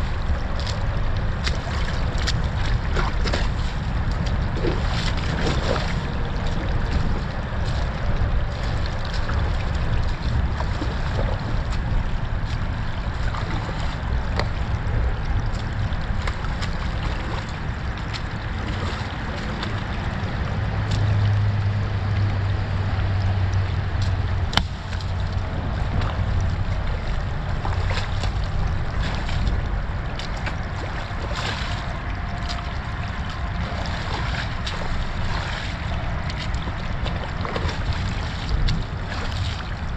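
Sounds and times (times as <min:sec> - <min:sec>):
boots wading in water: 0:00.0 - 0:39.9
creek water rushing: 0:00.0 - 0:39.9
wind rumble on microphone: 0:00.0 - 0:39.9.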